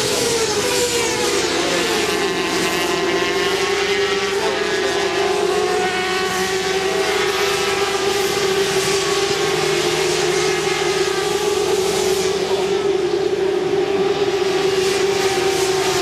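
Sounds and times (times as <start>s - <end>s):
racing motorcycle engines revving high: 0.0s - 16.0s.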